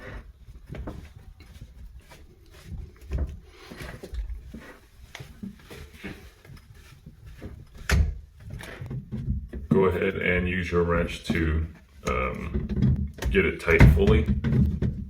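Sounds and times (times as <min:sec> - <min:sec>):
drain pipe knocks and scrapes: 0:00.0 - 0:15.0.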